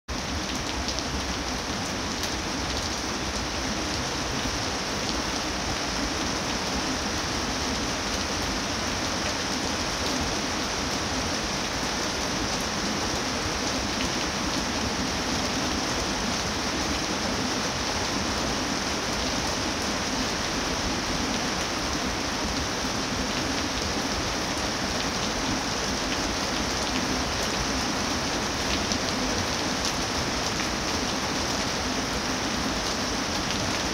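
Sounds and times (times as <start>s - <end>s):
rain falling on foliage: 0.1s - 33.9s.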